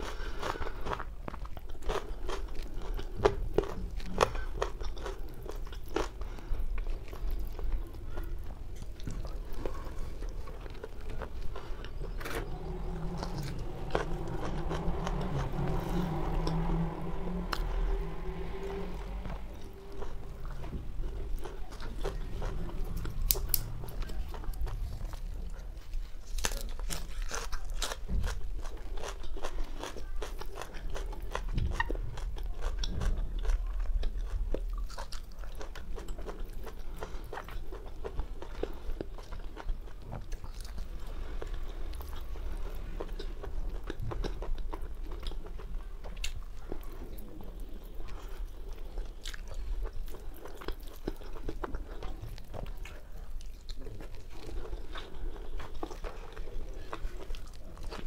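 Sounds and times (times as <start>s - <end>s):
person chewing chicken: 0.0s - 18.6s, 19.3s - 58.0s.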